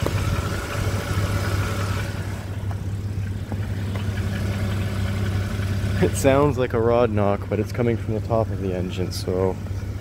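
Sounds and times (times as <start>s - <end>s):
car engine idling: 0.0s - 10.0s
engine ticking: 0.0s - 10.0s.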